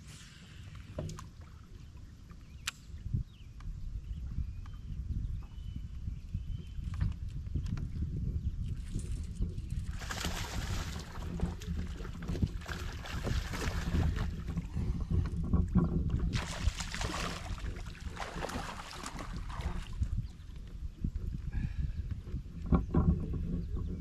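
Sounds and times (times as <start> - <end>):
water and wind against boat hull: 0.0 - 24.0.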